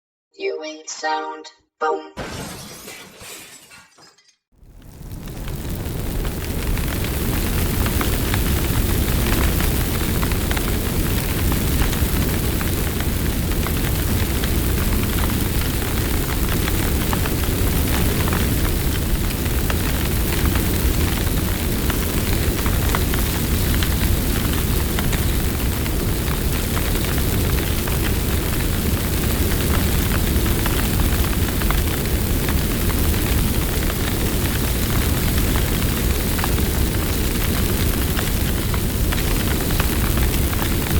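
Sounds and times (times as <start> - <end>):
fire crackling: 4.6 - 40.9
low rumble of flames: 4.6 - 40.9.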